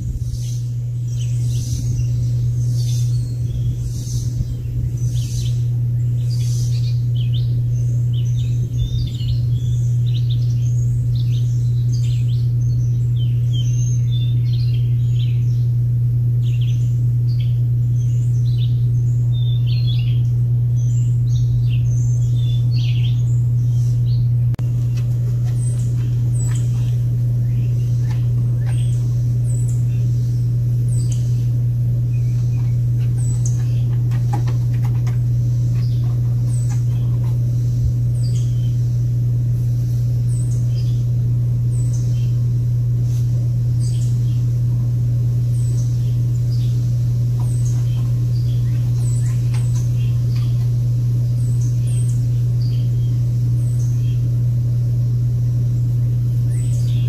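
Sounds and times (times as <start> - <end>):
loud low hum: 0.0 - 57.0
small birds chirping: 0.0 - 57.0.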